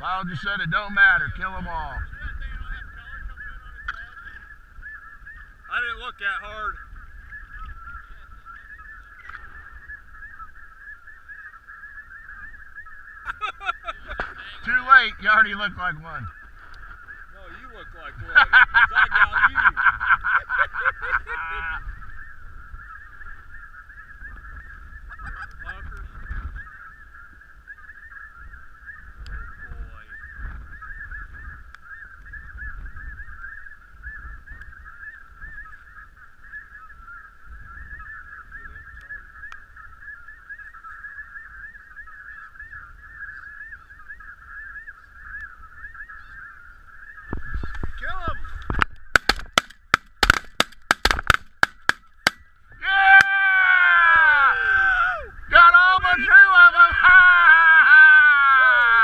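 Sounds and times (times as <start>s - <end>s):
snow geese calling: 0.0s - 59.0s.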